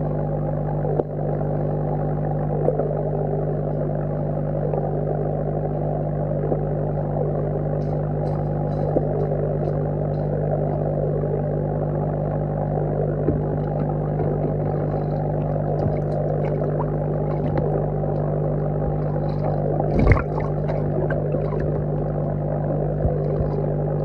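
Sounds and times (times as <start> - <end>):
aerator bubbling: 0.0 - 24.0
low underwater hum: 0.0 - 24.0.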